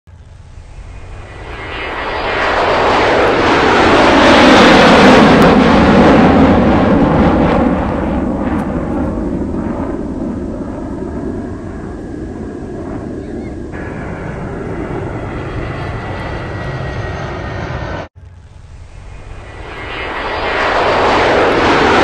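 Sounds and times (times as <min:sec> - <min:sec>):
airliner engine passing overhead: 0:00.1 - 0:22.0.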